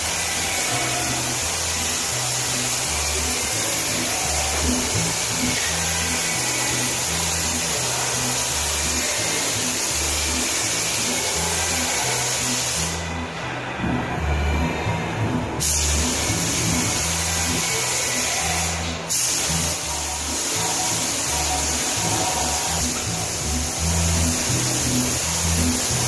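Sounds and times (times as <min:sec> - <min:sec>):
paint spray gun hissing: 0:00.0 - 0:13.0, 0:15.6 - 0:26.0
music with bass beat: 0:00.0 - 0:26.0.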